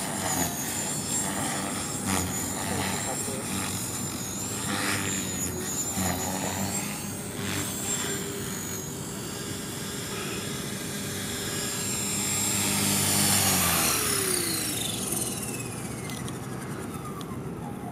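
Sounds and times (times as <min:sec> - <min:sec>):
model helicopter rotor whine: 0:00.0 - 0:17.9.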